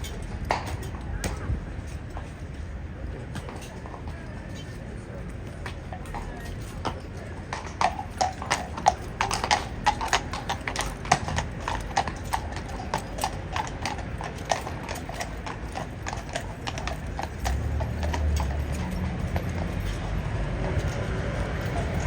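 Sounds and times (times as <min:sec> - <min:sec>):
horse hooves clip-clopping: 0:00.0 - 0:22.0.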